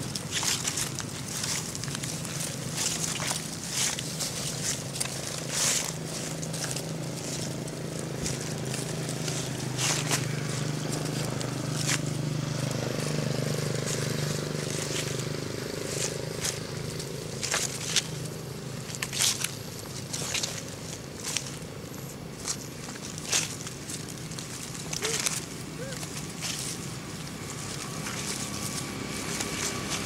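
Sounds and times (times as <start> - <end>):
dry leaves rustling underfoot: 0.0 - 30.0
low engine hum: 0.0 - 30.0.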